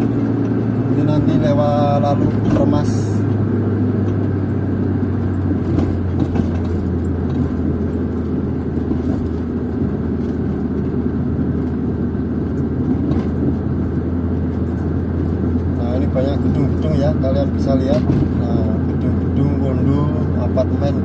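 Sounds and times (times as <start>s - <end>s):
car engine hum: 0.0s - 21.0s
tyre road noise: 0.0s - 21.0s.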